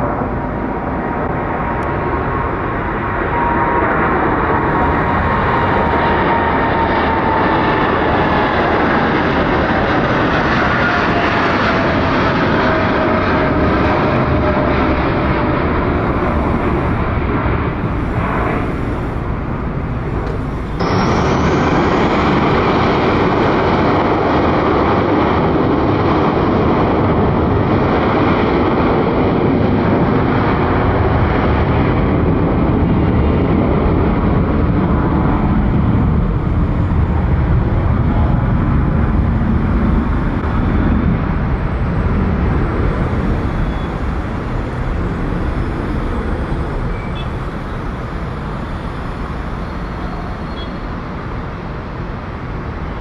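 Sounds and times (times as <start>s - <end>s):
jet airliner engine noise: 0.0s - 53.0s.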